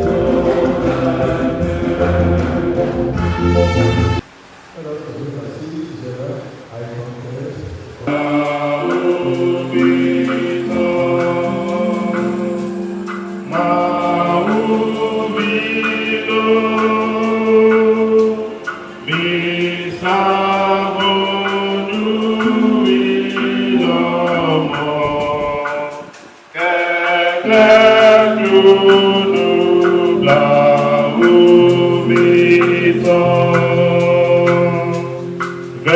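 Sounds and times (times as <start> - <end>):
choir singing in harmony: 0.0 - 4.2, 8.1 - 35.9.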